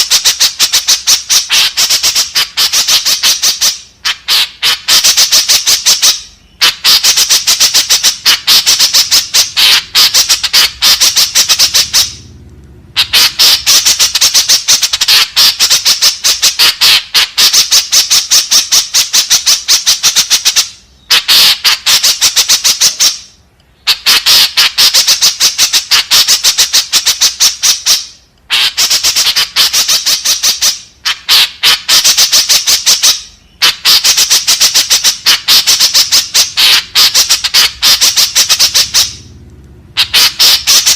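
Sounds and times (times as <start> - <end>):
bird harsh squawking: 0.0 - 12.3, 12.9 - 39.3, 40.0 - 40.9.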